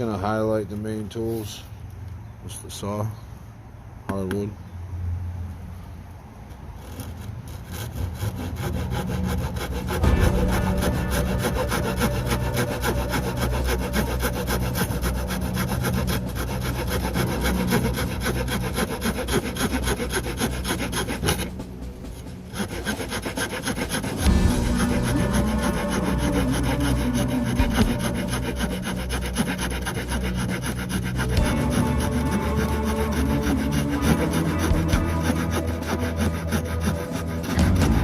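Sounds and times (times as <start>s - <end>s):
hand saw cutting wood: 6.5s - 38.0s.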